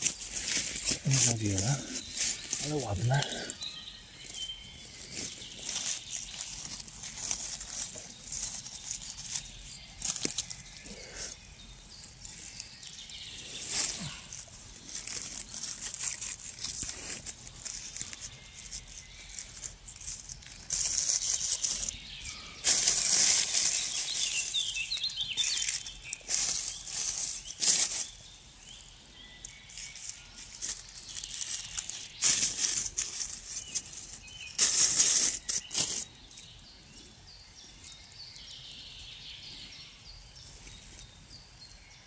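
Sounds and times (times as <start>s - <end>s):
dry leaves rustling and crackling: 0.0s - 11.4s, 12.0s - 36.7s.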